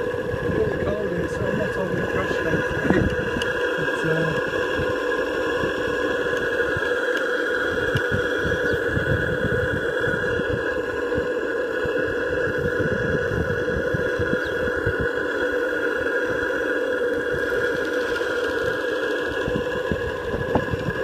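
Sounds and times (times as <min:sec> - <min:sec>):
model steam engine running: 0:00.0 - 0:21.0.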